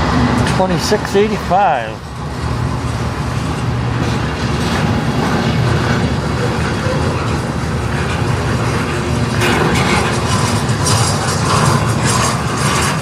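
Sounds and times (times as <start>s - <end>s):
diesel locomotive engine drone: 0.0s - 13.0s
train wheels rumbling on rail: 0.0s - 13.0s.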